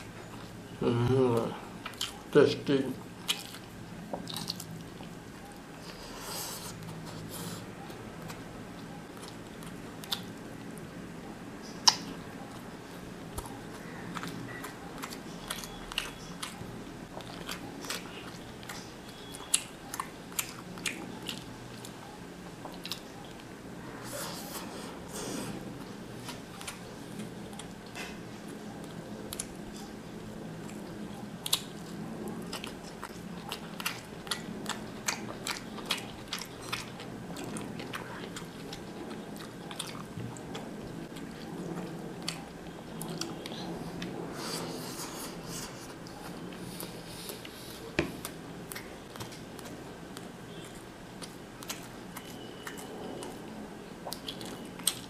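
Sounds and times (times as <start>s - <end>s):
man chewing food: 0.0s - 55.0s.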